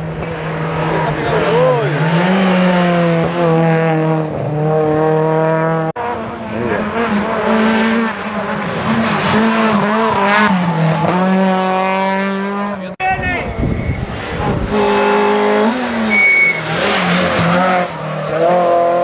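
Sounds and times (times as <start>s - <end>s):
rally car engines high revs: 0.1s - 12.9s, 14.0s - 19.0s
rally car revving past: 0.3s - 12.8s, 14.1s - 19.0s.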